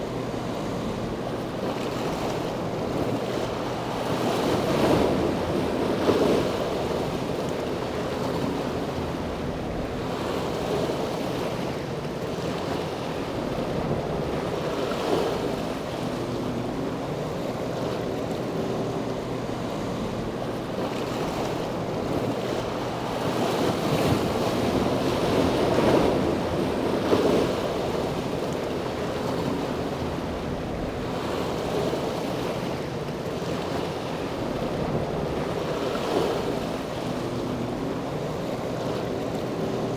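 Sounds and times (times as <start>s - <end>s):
harbour water washing: 0.0s - 39.9s.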